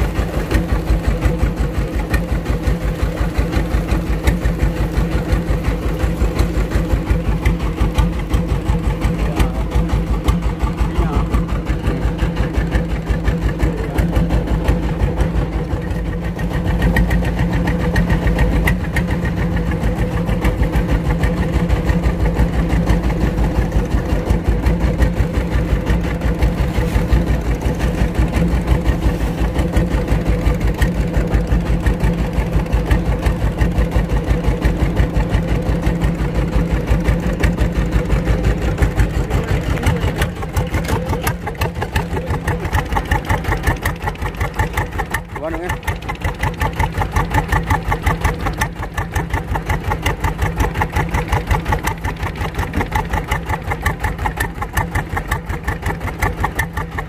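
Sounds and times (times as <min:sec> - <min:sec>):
boat engine pulsing: 0:00.0 - 0:57.0.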